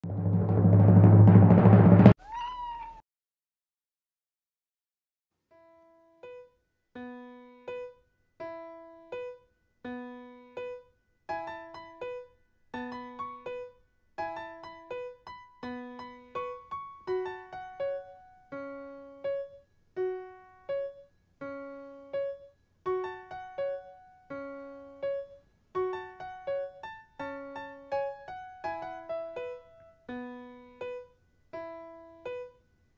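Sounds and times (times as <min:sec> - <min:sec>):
gentle keyboard melody: 0:06.0 - 0:32.6.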